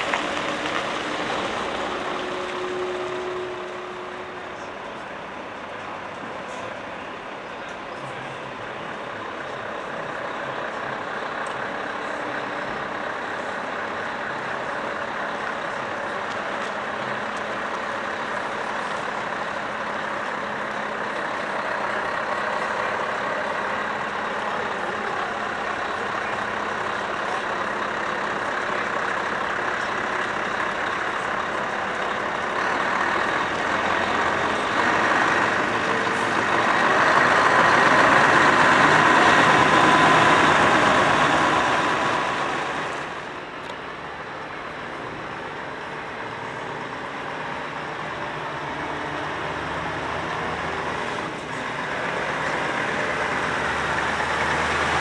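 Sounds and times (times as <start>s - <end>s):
truck diesel engine driving: 0.0s - 55.0s.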